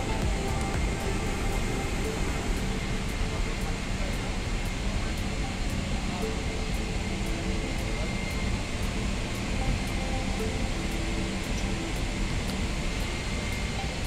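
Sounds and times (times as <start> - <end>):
aircraft noise: 0.0 - 14.0
thin high tone: 0.0 - 14.0
ventilation rushing hum: 0.0 - 14.0.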